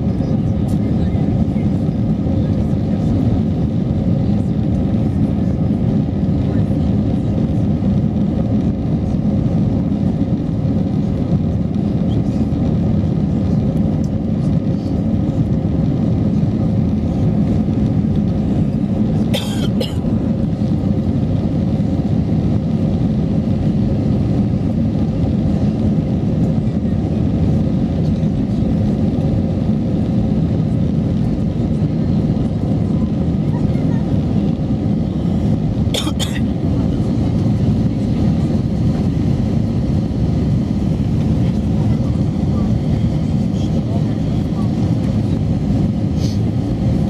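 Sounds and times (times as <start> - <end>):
aircraft cabin engine roar: 0.0 - 47.0.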